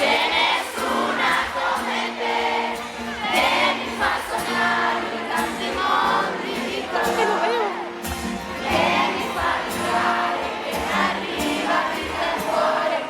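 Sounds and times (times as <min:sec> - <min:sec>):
crowd noise: 0:00.0 - 0:13.0
live pop song through speakers: 0:00.0 - 0:13.0.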